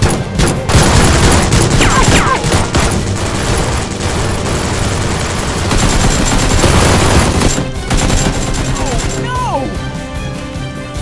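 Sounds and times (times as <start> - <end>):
rapid machine-gun fire: 0.0 - 9.4.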